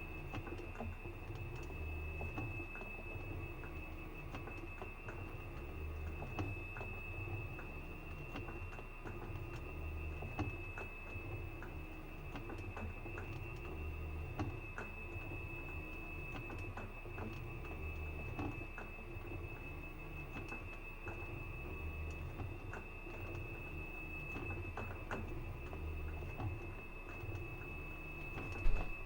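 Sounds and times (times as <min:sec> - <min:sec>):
washing machine spinning: 0:00.0 - 0:29.0.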